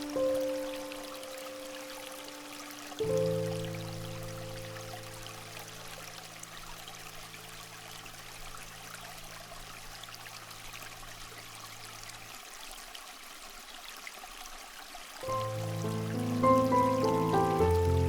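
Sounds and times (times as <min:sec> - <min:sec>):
running water hiss: 0:00.0 - 0:18.0.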